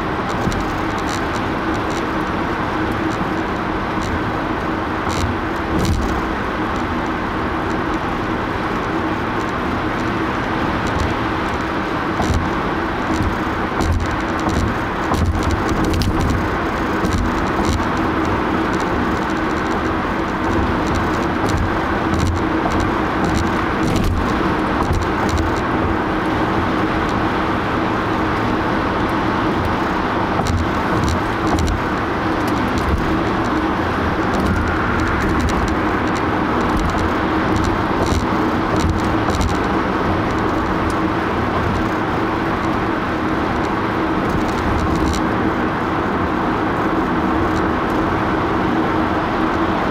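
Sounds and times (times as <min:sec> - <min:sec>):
car cabin road and engine noise: 0:00.0 - 0:49.9.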